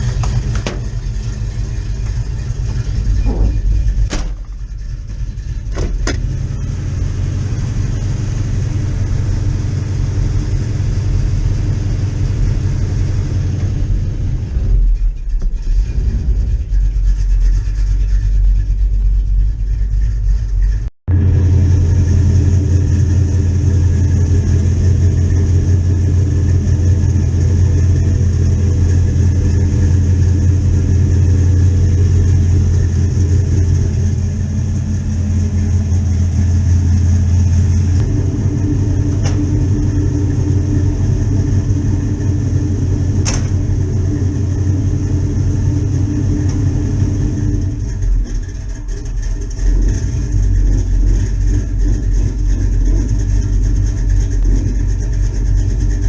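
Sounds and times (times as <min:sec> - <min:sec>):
pickup engine idling: 0:00.0 - 0:56.0.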